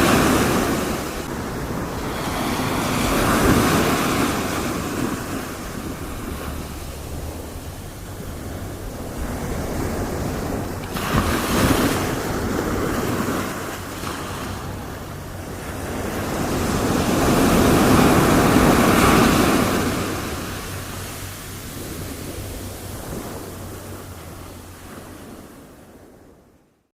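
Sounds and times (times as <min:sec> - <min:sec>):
ocean waves breaking: 0:00.0 - 0:26.6
steady rush of surf: 0:00.0 - 0:26.6.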